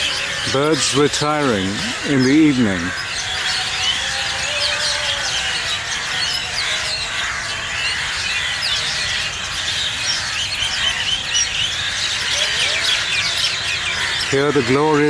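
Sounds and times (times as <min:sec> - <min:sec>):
flock of birds chattering: 0:00.0 - 0:15.0.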